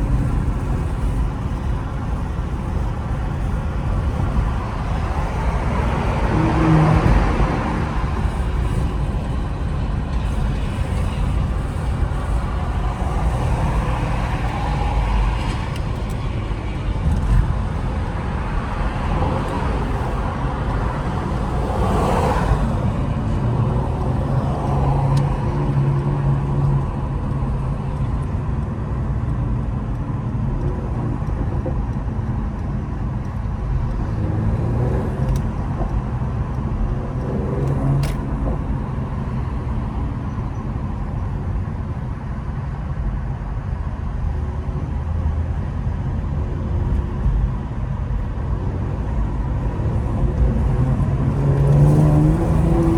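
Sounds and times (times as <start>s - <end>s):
car engine: 0.0s - 52.9s
road rumble: 0.0s - 52.9s.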